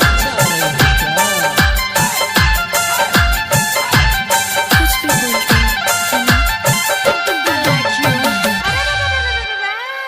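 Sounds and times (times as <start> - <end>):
drum strokes: 0.0 - 9.4
bending melody line: 0.0 - 10.0.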